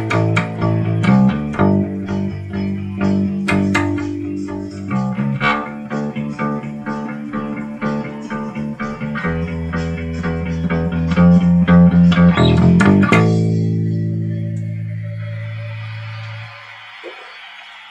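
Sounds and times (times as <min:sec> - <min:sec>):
bass guitar playing: 0:00.0 - 0:16.5
plucked electric guitars: 0:00.0 - 0:16.6.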